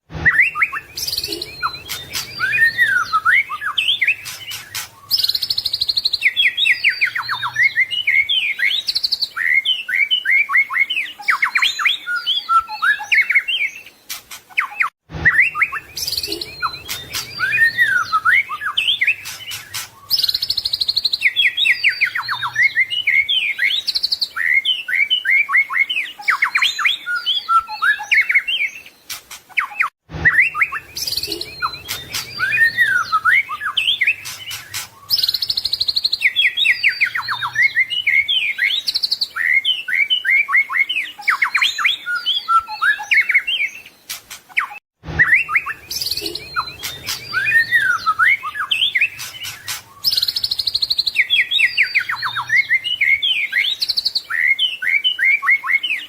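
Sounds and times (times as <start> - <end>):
songbird singing whistles and trills: 0.2 - 56.0.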